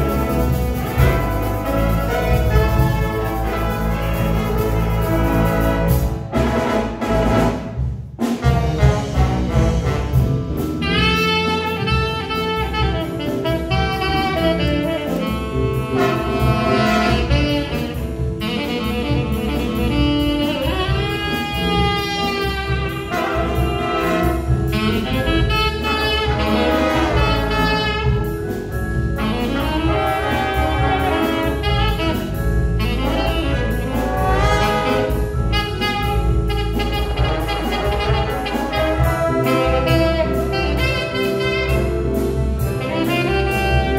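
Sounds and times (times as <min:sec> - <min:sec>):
saxophone melody: 0:00.0 - 0:06.4, 0:08.4 - 0:43.9
jazz big band playing: 0:00.0 - 0:43.9.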